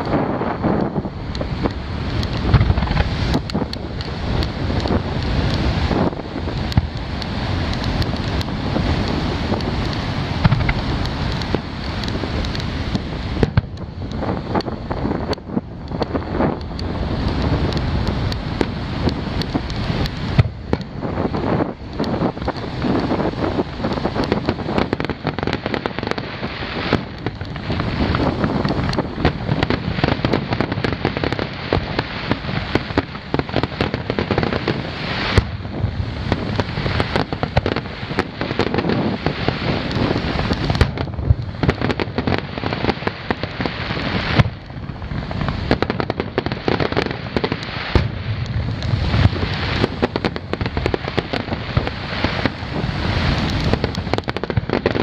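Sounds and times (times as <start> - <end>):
sharp firework bangs: 0.0 - 7.1, 7.7 - 16.6, 17.4 - 55.0
fireworks booming and crackling: 0.0 - 55.0.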